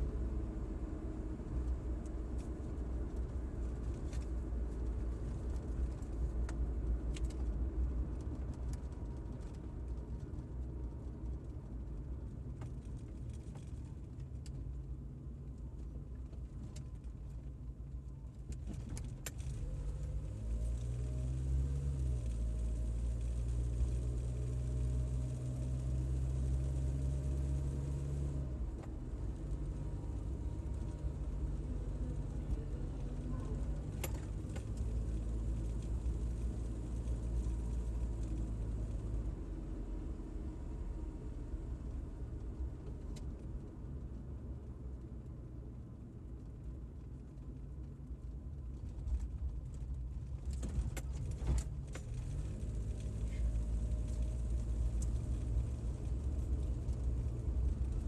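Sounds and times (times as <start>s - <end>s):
car engine and tyre hum: 0.0s - 58.0s.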